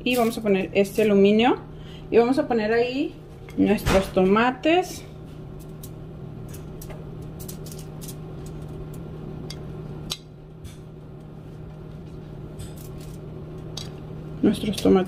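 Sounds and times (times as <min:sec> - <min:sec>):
burner low hum: 0:00.0 - 0:15.0.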